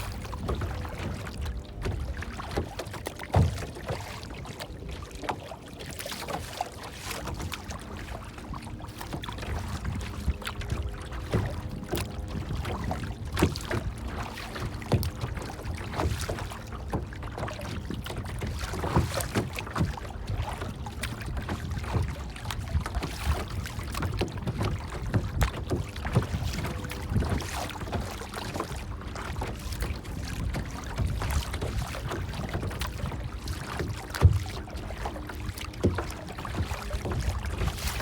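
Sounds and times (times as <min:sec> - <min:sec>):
water lapping and splashing: 0:00.0 - 0:38.0.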